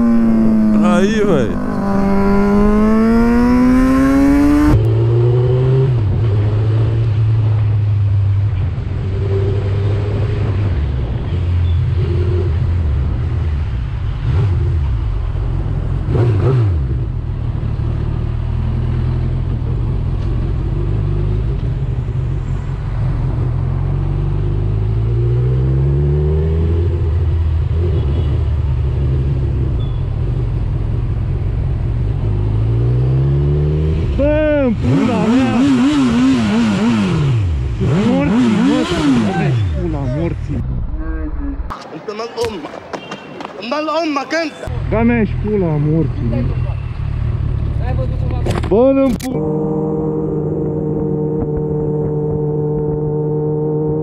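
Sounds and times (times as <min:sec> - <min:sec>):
motorcycle engine revving: 0:00.0 - 0:08.0, 0:08.8 - 0:22.3, 0:22.9 - 0:30.7, 0:31.6 - 0:40.9, 0:44.7 - 0:54.0.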